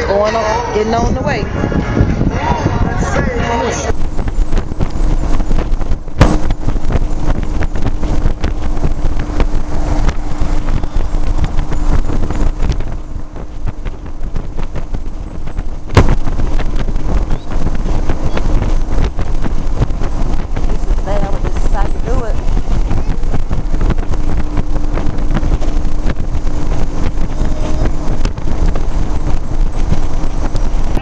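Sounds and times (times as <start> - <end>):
motorcycle engine rumble: 0.0 - 31.0
steady hum: 0.0 - 31.0
wind buffeting microphone: 0.0 - 31.0.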